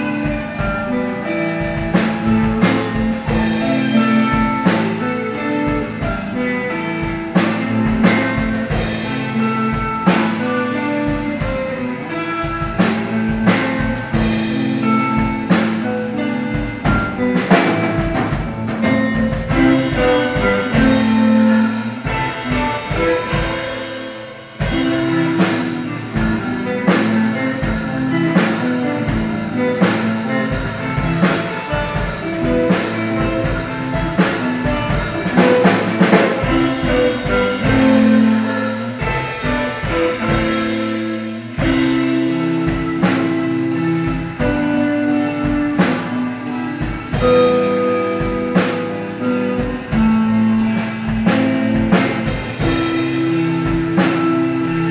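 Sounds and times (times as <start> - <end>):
drum kit: 0.0 - 54.9
electric bass: 0.0 - 54.9
electric guitars: 0.0 - 54.9.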